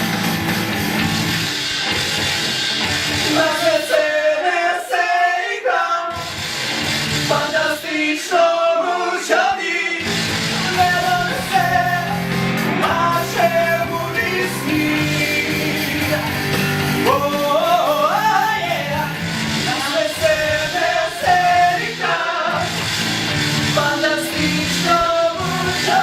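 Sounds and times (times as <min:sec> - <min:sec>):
band playing a song: 0:00.0 - 0:04.4, 0:06.1 - 0:07.8, 0:10.0 - 0:26.0
people singing: 0:03.1 - 0:26.0.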